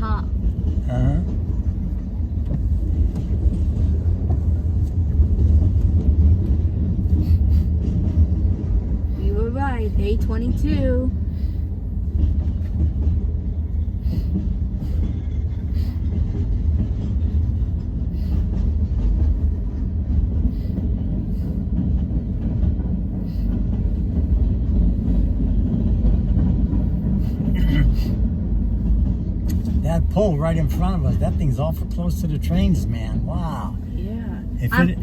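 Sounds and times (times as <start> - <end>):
freight train rumbling: 0.0 - 35.0.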